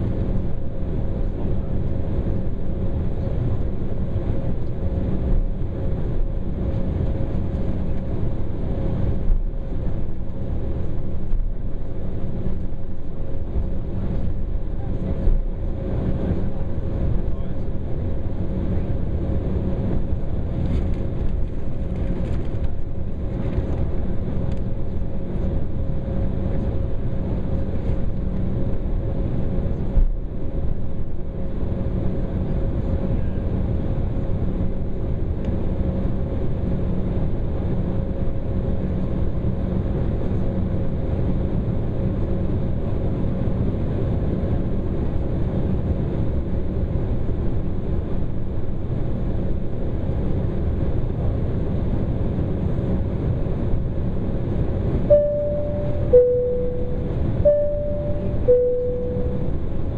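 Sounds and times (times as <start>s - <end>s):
airliner cabin rumble and hum: 0.0s - 59.9s.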